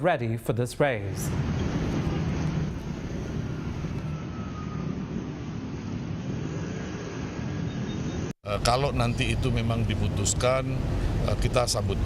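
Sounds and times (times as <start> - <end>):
vehicle traffic noise: 1.0 - 12.0.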